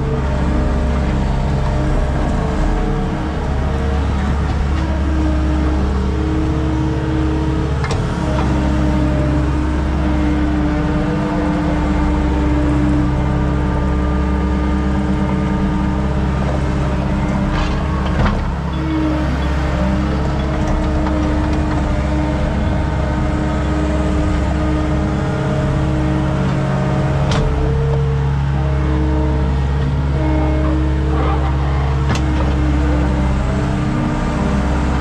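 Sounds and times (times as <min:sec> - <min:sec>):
skid steer engine running: 0:00.0 - 0:35.0.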